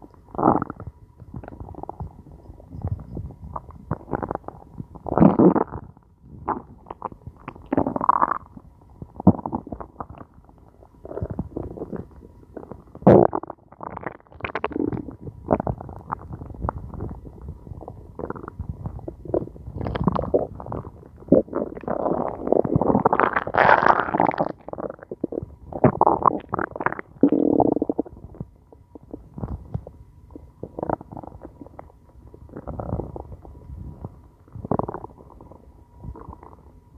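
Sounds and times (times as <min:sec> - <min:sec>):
stomach growling and gurgling: 0:00.0 - 0:36.8.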